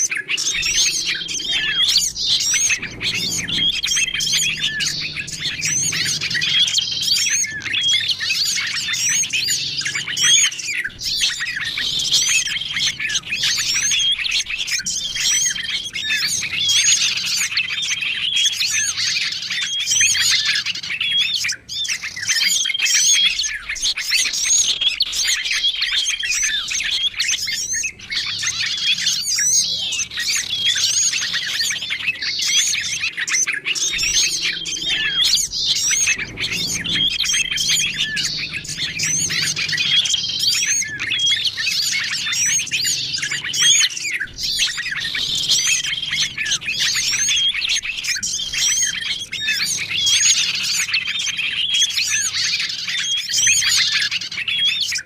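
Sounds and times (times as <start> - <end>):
songbirds chirping chorus: 0.0 - 55.0.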